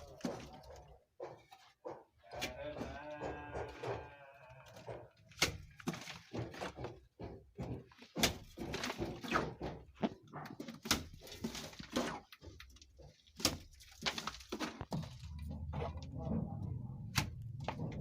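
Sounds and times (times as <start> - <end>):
objects knocking and thudding: 0.0 - 18.0.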